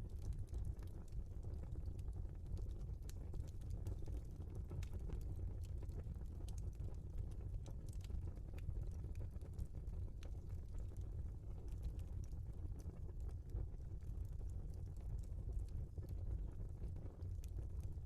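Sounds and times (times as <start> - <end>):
fire crackling and popping: 0.0 - 18.0
wood fire rumbling: 0.0 - 18.0.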